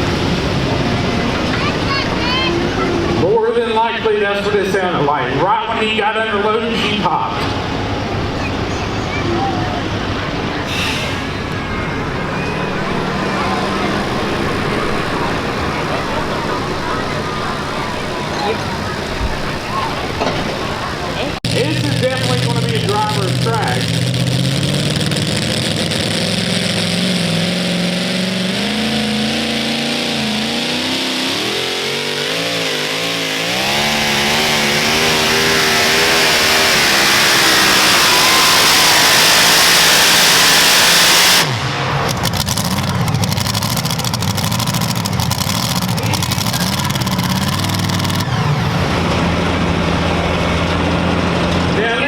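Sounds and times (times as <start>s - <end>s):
pulling truck engine at full throttle: 0.0s - 52.0s.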